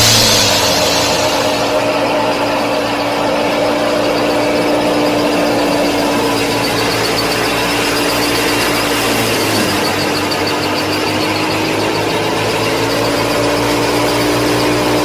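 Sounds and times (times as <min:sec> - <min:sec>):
small electric motors whining: 0:00.0 - 0:15.0.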